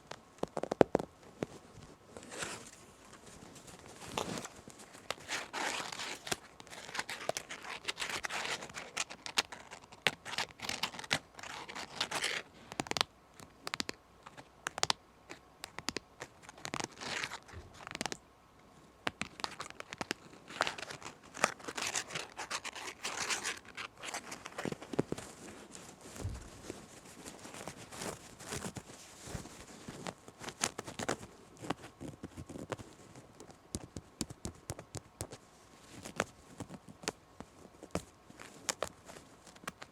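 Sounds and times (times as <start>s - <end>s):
scratching and rubbing on fabric: 0.4s - 14.5s, 15.3s - 18.2s, 18.8s - 39.9s.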